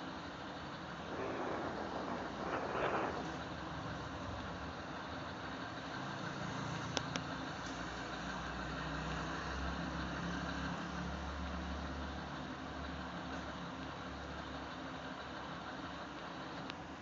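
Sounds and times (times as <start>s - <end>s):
car engine and traffic hum: 0.0s - 17.0s.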